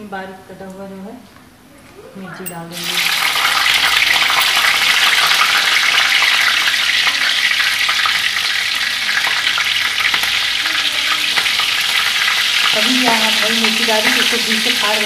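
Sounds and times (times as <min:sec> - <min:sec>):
spices sizzling in hot oil: 0:02.7 - 0:15.0.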